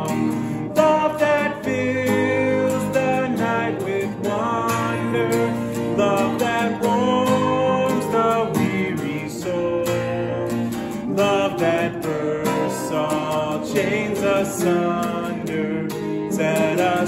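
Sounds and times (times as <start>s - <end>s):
acoustic guitar strumming: 0.0s - 17.0s
person singing a hymn: 0.0s - 17.0s.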